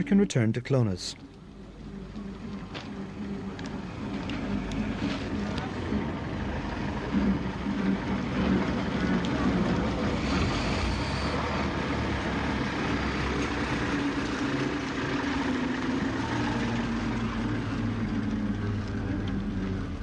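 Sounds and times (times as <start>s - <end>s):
diesel railcar engine droning: 1.2s - 20.0s.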